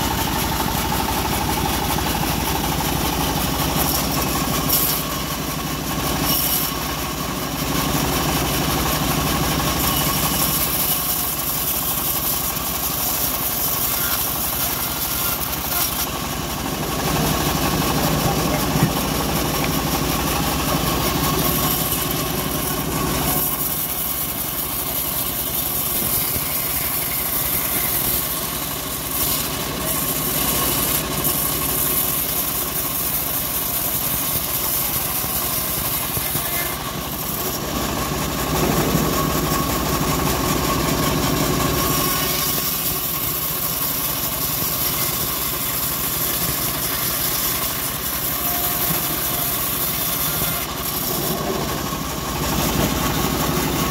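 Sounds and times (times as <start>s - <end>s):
bandsaw cutting log: 0.0s - 53.9s.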